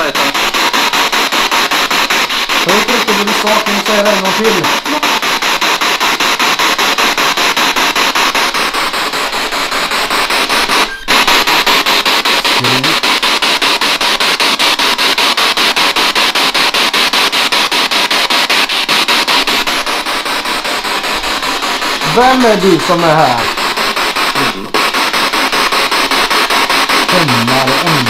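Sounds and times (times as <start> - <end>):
pulsing radio static: 0.0 - 28.0.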